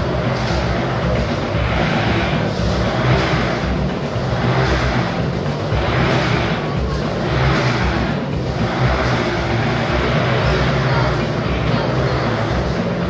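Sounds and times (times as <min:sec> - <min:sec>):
motorcycle engine running hard: 0:00.0 - 0:13.0.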